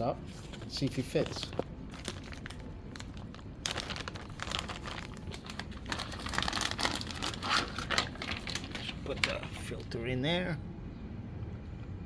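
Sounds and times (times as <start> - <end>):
plastic packaging crinkling: 0.3 - 10.0.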